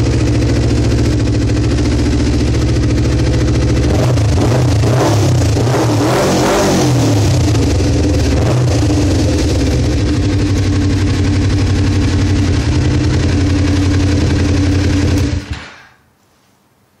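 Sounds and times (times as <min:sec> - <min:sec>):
motorcycle engine revving and idling: 0:00.0 - 0:15.7.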